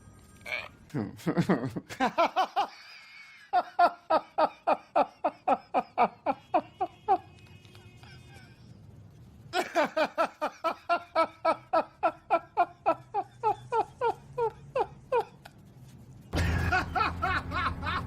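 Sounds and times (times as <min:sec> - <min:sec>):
person laughing: 0:00.9 - 0:08.7, 0:09.5 - 0:15.6, 0:16.4 - 0:18.0.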